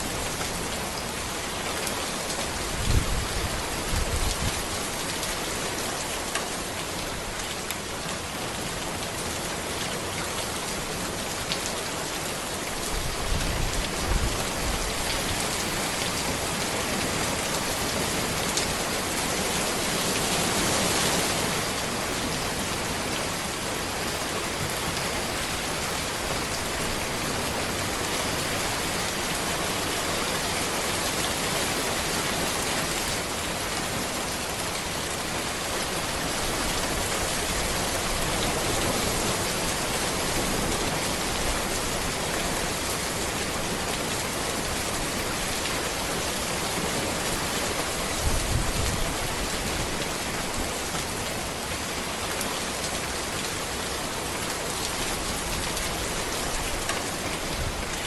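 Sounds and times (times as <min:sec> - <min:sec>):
rain falling on a road: 0:00.0 - 0:58.0.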